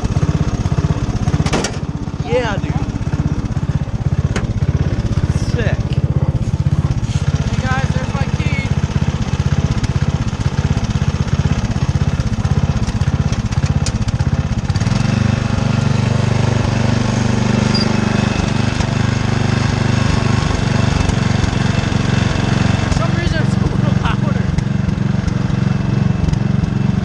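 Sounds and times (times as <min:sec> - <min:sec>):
lawn mower engine chugging: 0:00.0 - 0:27.0.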